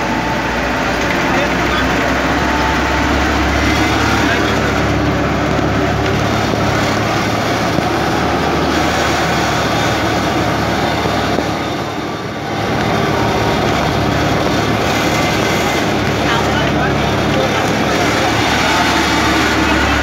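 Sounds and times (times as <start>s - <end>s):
low engine drone: 0.0s - 20.0s
road and wind noise: 0.0s - 20.0s.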